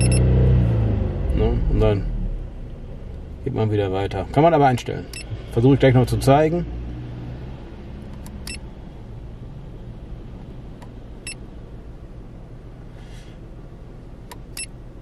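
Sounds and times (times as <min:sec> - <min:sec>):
car engine idling: 0:00.0 - 0:06.6, 0:07.7 - 0:15.0.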